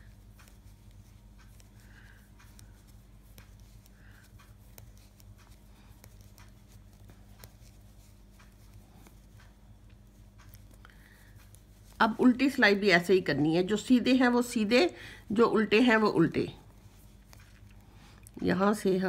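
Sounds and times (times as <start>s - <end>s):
knitting needles clicking: 0.0s - 14.7s, 15.3s - 19.0s
low electrical hum: 0.0s - 19.0s.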